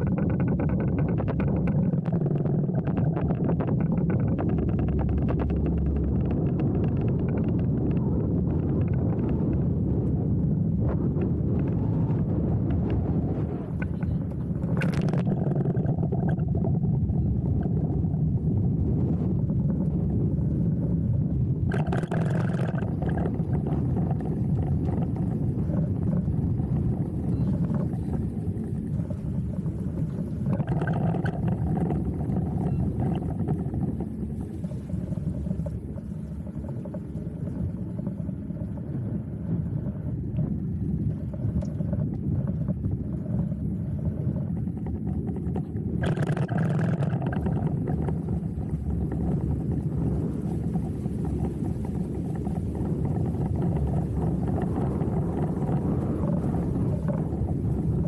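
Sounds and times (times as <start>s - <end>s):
motorboat engine running: 0.0s - 58.0s
water washing along hull: 0.0s - 58.0s.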